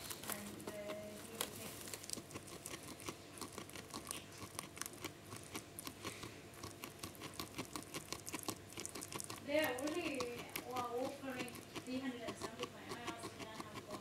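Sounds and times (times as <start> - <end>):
small animal chewing hay: 0.0 - 14.0.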